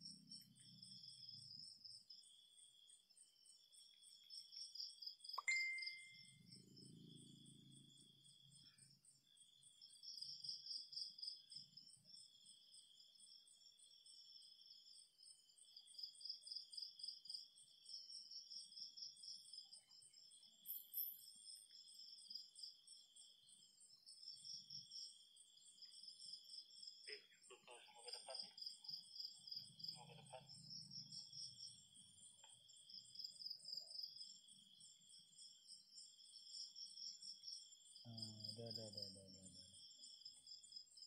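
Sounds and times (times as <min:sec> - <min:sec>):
high pulsing insect calls: 0:00.0 - 0:41.0
insects trilling: 0:00.0 - 0:41.0.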